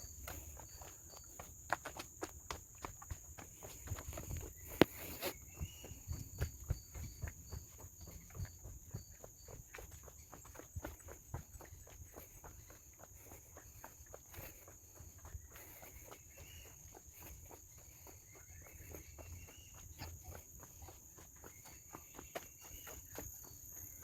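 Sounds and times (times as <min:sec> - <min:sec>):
footsteps on forest trail: 0:00.0 - 0:24.0
high-pitched insect drone: 0:03.3 - 0:24.0.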